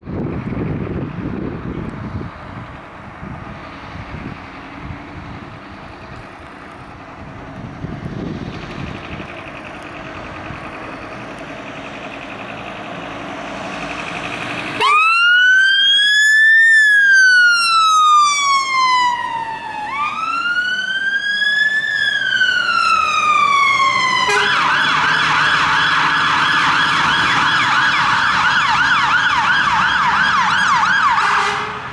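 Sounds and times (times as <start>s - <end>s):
road and engine noise: 0.0s - 31.9s
fire engine siren: 0.1s - 31.9s.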